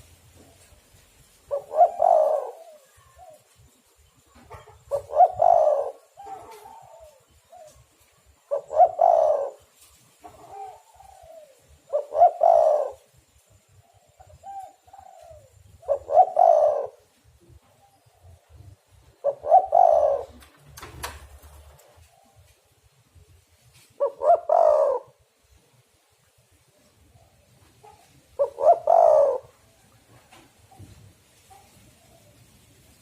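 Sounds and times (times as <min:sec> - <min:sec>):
dove cooing: 0:01.4 - 0:20.8, 0:21.8 - 0:25.3, 0:26.7 - 0:32.4.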